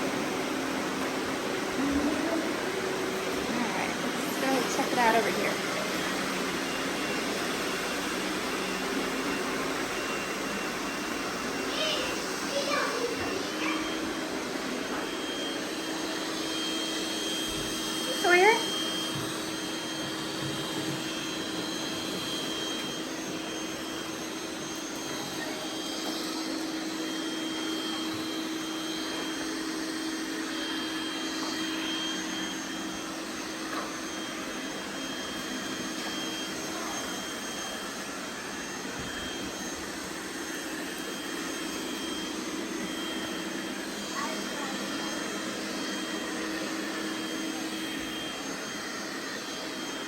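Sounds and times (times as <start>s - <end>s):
robot vacuum whirring: 0.0s - 50.0s.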